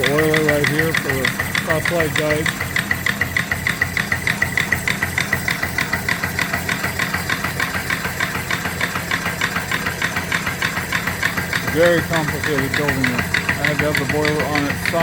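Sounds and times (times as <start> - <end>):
steam engine exhaust chuffing: 0.0 - 15.0.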